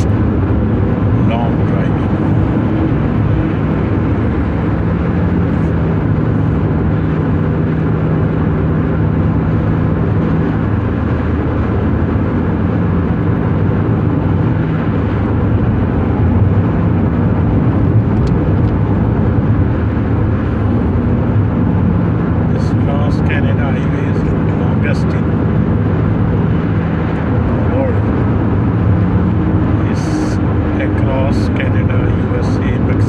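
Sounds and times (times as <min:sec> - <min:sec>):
car driving at highway speed: 0:00.0 - 0:33.0.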